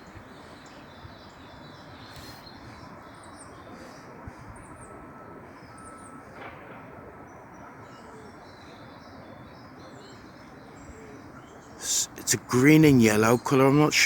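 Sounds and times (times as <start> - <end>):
small birds chirping: 0.0 - 6.2, 7.3 - 14.0
outdoor background noise: 0.0 - 14.0.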